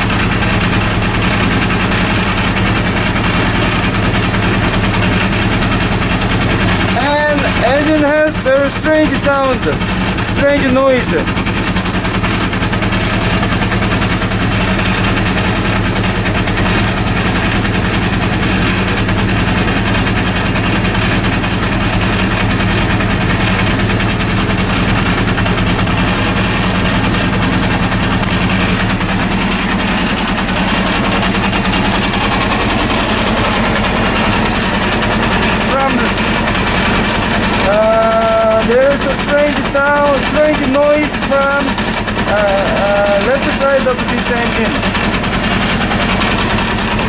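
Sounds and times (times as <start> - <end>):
motorcycle engine idling: 0.0 - 47.0
strange engine noise: 0.0 - 47.0.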